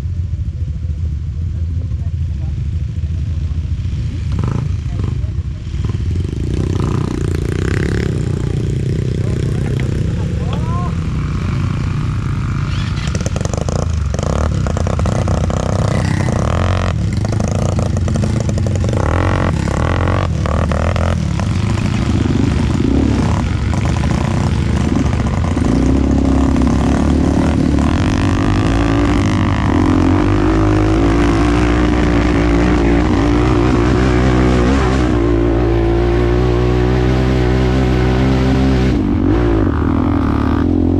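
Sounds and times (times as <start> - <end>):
atv engine revving: 3.1 - 40.9.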